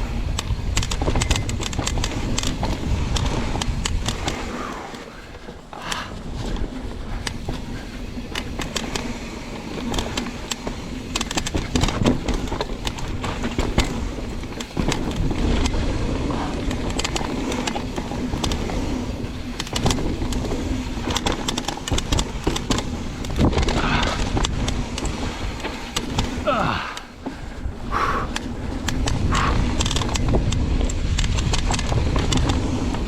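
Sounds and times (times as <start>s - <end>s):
bike clicks and rattles: 0.0s - 33.0s
bike tyre noise on dirt: 0.0s - 33.0s
wind rumbling on microphone: 0.0s - 33.0s.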